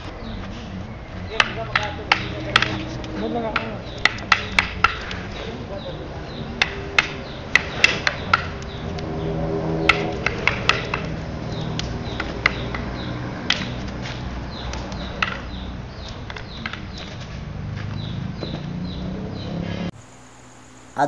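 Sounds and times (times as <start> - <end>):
wooden sticks clacking: 0.0 - 18.1
low hum: 0.0 - 21.0.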